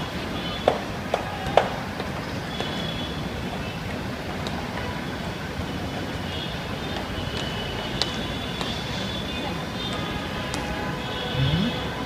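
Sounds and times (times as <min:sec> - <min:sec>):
urban background rumble and hiss: 0:00.0 - 0:12.0.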